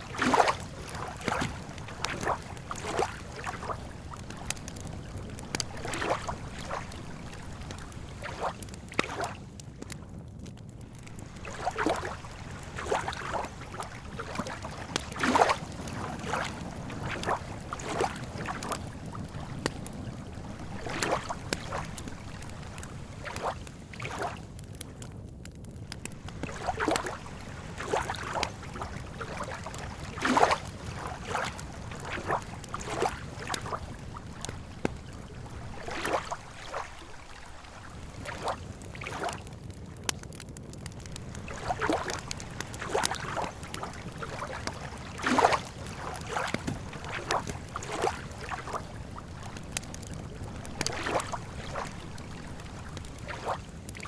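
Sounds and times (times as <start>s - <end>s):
lake water lapping at shore: 0.0s - 9.9s, 10.9s - 24.8s, 25.9s - 39.8s, 40.8s - 54.0s.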